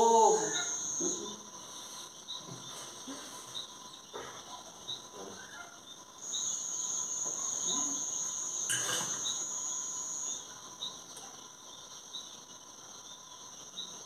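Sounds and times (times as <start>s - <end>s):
night insects trilling: 0.0s - 14.0s
short insect chirps: 0.0s - 14.0s.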